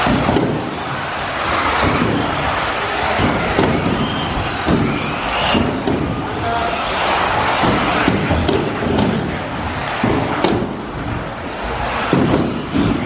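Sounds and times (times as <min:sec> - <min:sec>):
rc cars whirring: 0:00.0 - 0:13.0.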